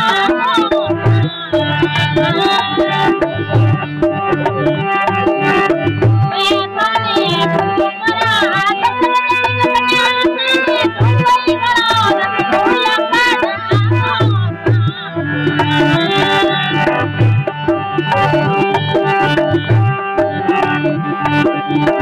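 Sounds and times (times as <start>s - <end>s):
folk song melody: 0.0s - 22.0s
steady drum beat: 0.1s - 22.0s.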